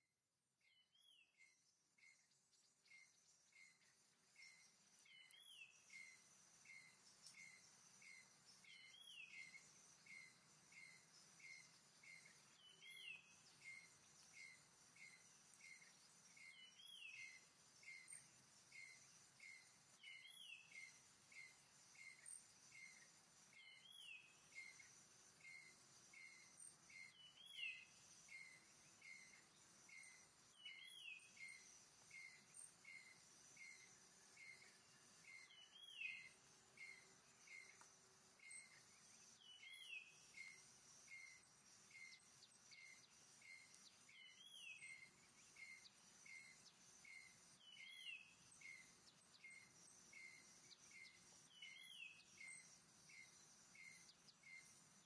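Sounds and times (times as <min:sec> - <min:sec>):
insect buzz: 0:00.9 - 0:55.0.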